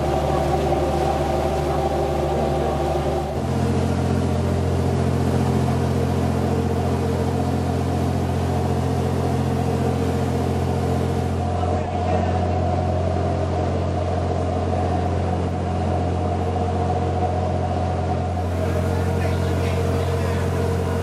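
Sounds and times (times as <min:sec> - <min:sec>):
motorboat engine running: 0:00.0 - 0:21.0.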